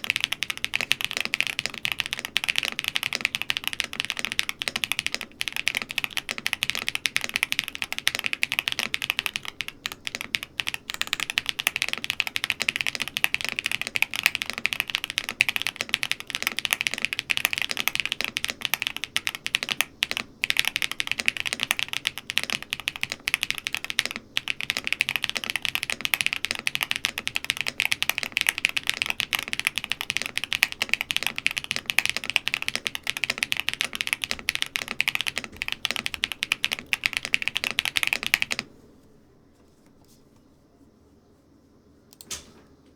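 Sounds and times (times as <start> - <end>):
mechanical keyboard typing: 0.0 - 38.7.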